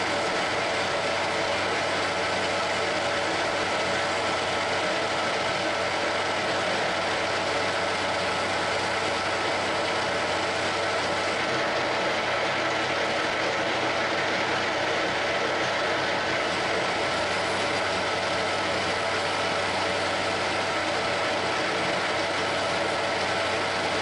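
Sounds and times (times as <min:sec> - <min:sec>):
metal lathe whirring: 0:00.0 - 0:24.0.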